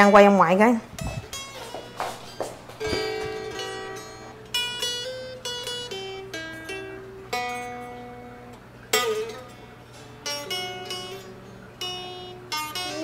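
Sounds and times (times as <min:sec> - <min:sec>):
electric guitar single notes: 0:00.8 - 0:13.0.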